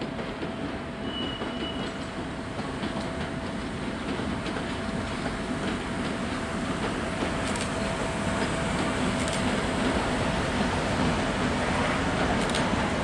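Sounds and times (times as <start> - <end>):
diesel locomotive engine running: 0.7 - 13.0.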